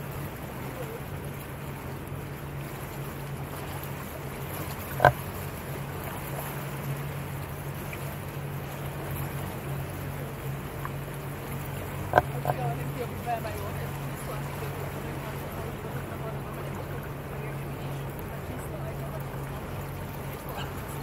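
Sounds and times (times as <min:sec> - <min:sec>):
motorboat engine droning: 0:00.0 - 0:21.0
water wash: 0:00.0 - 0:21.0.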